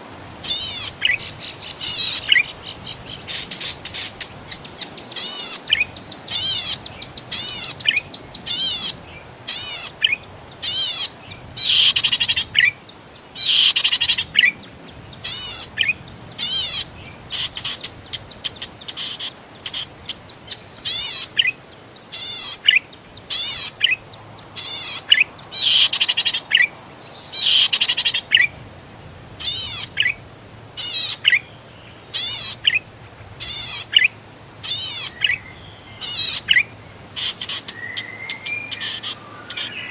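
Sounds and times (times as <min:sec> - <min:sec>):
small bird singing zigzag notes: 0:00.4 - 0:28.5, 0:30.8 - 0:39.9.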